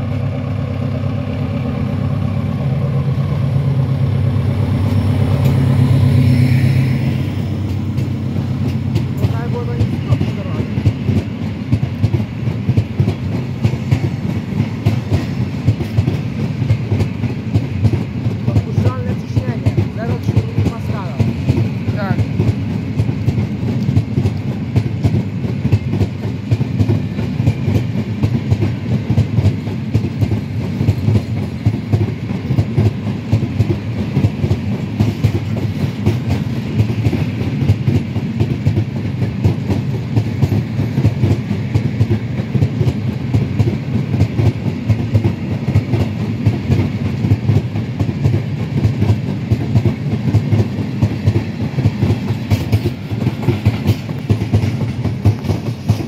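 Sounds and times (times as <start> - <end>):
freight train rumbling past: 0.0 - 56.0
steel wheels clattering on rails: 7.5 - 56.0.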